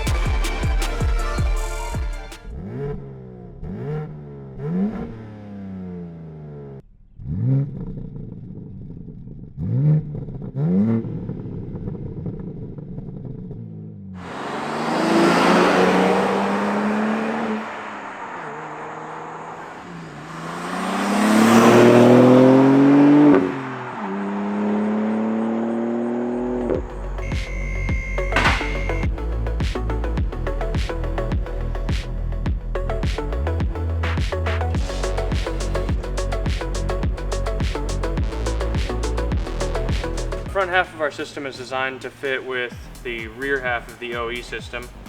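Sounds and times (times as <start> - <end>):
car engine revving through exhaust: 2.4 - 45.0.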